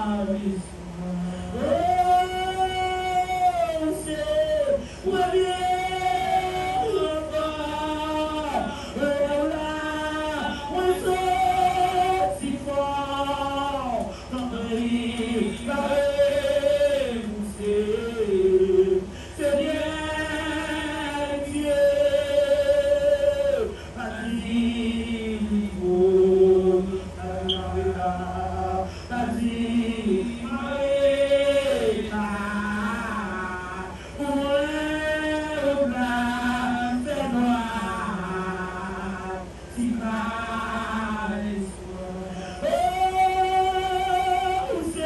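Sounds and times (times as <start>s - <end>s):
voices singing worship song: 0.0s - 45.0s.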